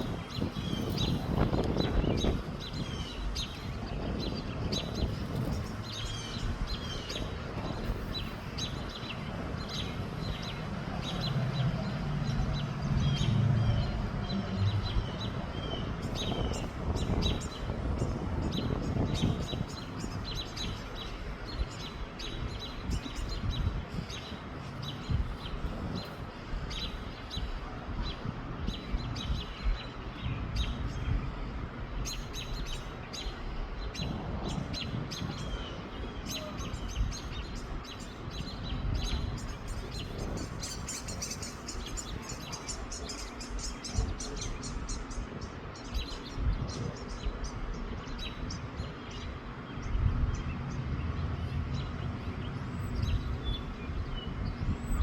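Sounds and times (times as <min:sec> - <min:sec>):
small birds chirping: 0:00.0 - 0:55.0
wind buffeting microphone: 0:00.0 - 0:55.0.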